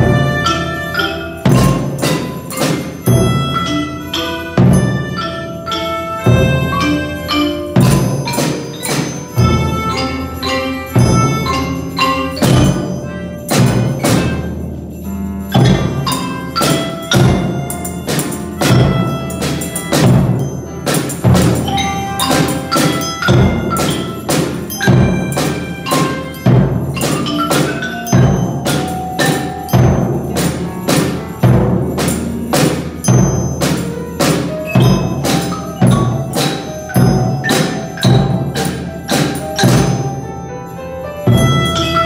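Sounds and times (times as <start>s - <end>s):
tambourines and bell sticks beat: 0.0s - 42.0s.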